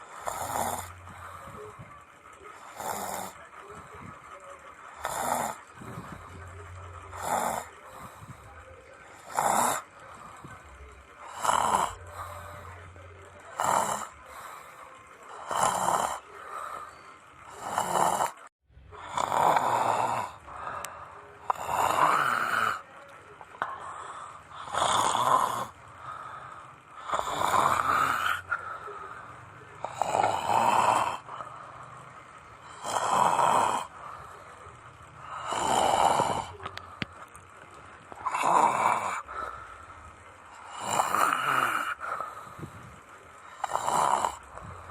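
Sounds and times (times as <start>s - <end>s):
person snoring: 0.0s - 1.8s, 2.6s - 3.5s, 4.9s - 10.5s, 11.2s - 22.9s, 23.5s - 34.6s, 35.2s - 37.3s, 38.1s - 39.9s, 40.5s - 42.8s, 43.4s - 44.9s.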